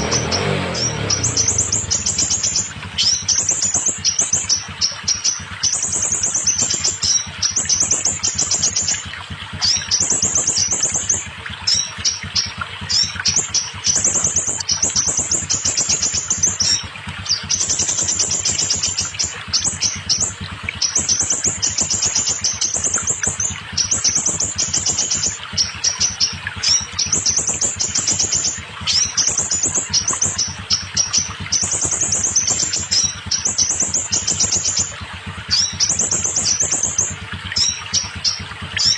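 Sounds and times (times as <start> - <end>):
bird chattering trills: 0.0 - 38.9.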